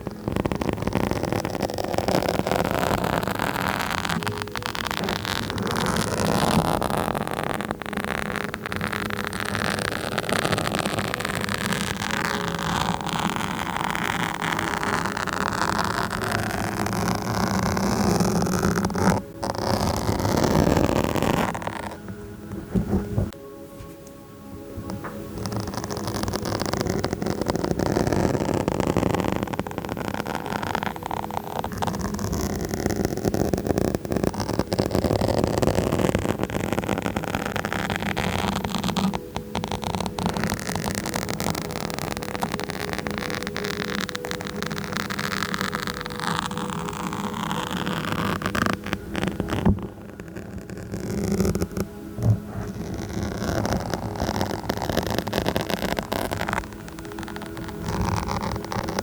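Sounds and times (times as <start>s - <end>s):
microphone being scratched: 0.0s - 59.0s.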